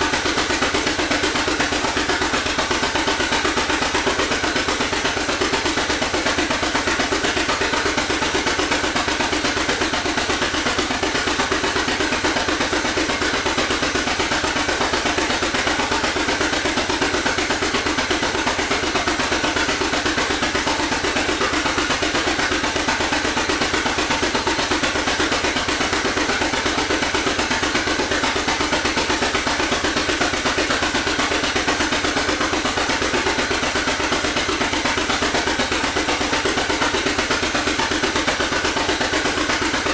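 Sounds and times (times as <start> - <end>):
tractor engine running steadily: 0.0 - 39.9.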